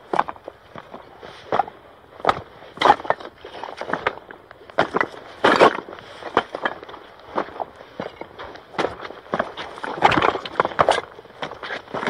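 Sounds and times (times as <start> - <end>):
boots crunching on loose rock: 0.0 - 12.0.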